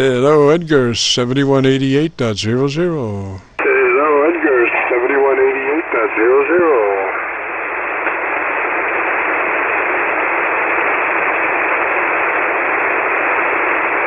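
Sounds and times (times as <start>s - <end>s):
radio band noise hiss: 0.0s - 14.0s.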